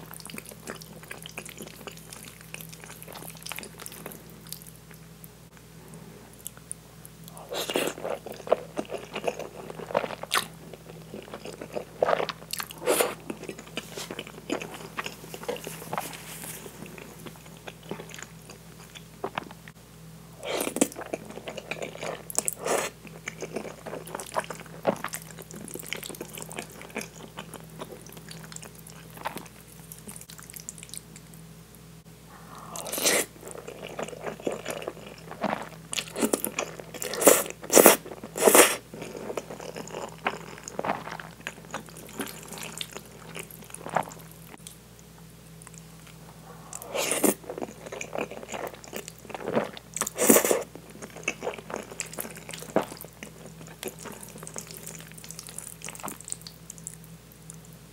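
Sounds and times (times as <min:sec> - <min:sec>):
chewing: 0:00.0 - 0:05.0, 0:06.3 - 0:19.7, 0:20.4 - 0:31.4, 0:32.4 - 0:44.8, 0:45.6 - 0:57.7.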